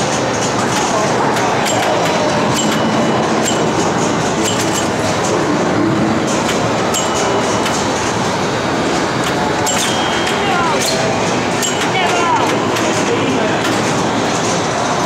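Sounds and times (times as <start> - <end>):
mechanical clicks and clacks: 0.0 - 15.0
pinball machines din: 0.0 - 15.0.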